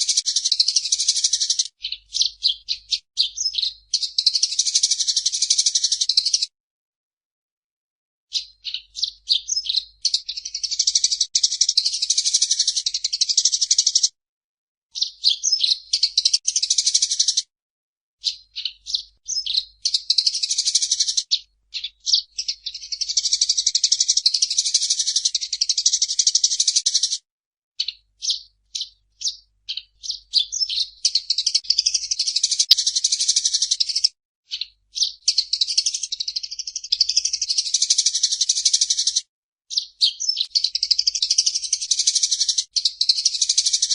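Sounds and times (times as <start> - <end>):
sparrow chirping: 0.0 - 6.5, 8.3 - 14.1, 14.9 - 17.4, 18.2 - 27.2, 27.8 - 43.9.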